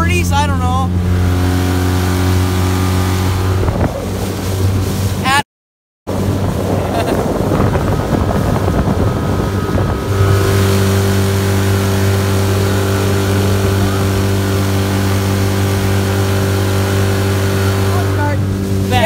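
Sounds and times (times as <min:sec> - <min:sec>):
outboard motor drone: 0:00.0 - 0:05.4, 0:06.1 - 0:19.0
water rushing in wake: 0:00.0 - 0:05.4, 0:06.1 - 0:19.0.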